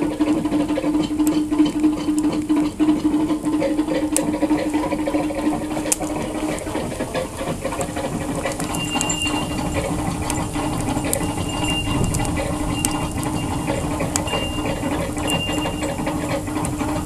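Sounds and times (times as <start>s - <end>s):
steady low hum: 0.0s - 17.0s
wood fire crackling and popping: 0.0s - 17.0s.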